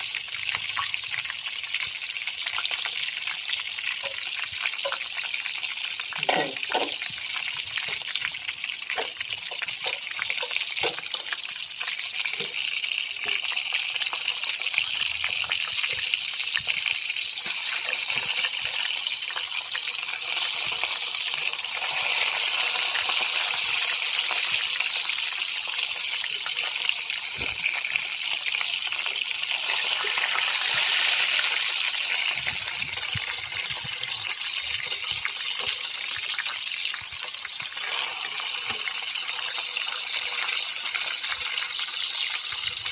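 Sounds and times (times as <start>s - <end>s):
chicken sizzling in hot oil: 0.0s - 42.9s.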